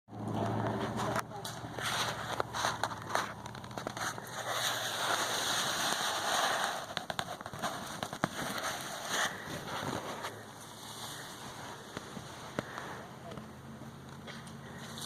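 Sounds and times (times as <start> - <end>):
branches snapping and crackling: 0.1 - 15.0.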